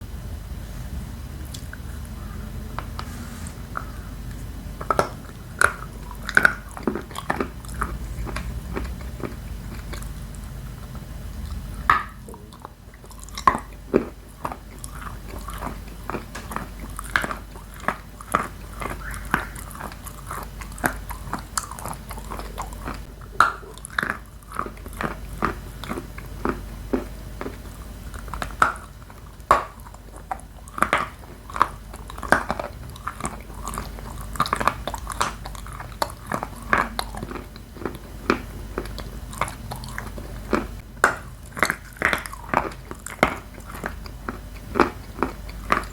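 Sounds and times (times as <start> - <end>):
crunchy chewing: 1.4 - 45.9.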